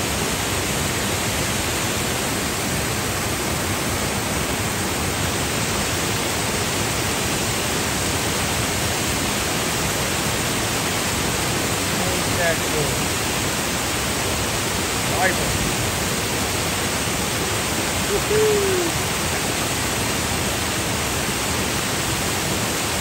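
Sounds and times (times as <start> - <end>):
water rushing over spillway: 0.0 - 23.0.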